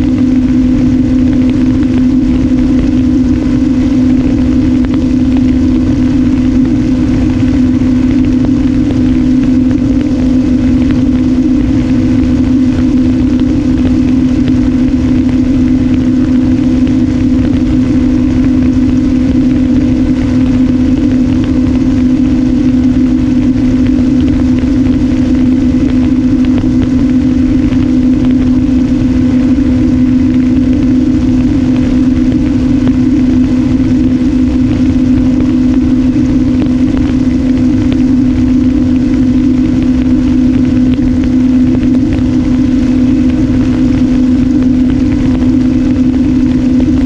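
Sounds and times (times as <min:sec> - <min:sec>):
electric motor and propeller droning: 0:00.0 - 0:47.0
low wind rumble: 0:00.0 - 0:47.0.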